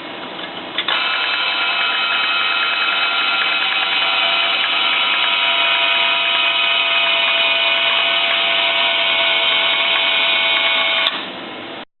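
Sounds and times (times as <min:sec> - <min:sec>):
held tones: 0:00.9 - 0:11.2
x-ray detector mechanical noise: 0:00.9 - 0:11.2.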